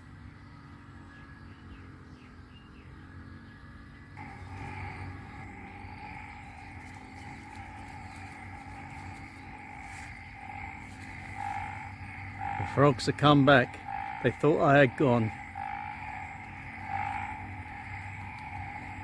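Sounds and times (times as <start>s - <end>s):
frog chorus: 0.0s - 19.0s.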